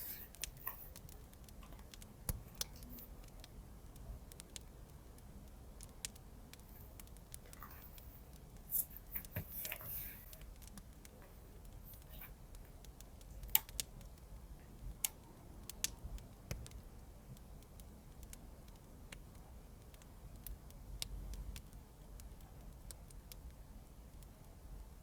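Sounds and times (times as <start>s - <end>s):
fireplace crackling: 0.0s - 25.0s.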